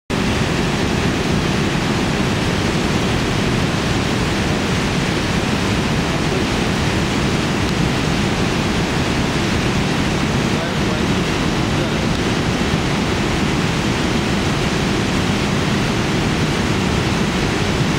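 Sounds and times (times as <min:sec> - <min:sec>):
waterfall rushing: 0:00.1 - 0:17.9.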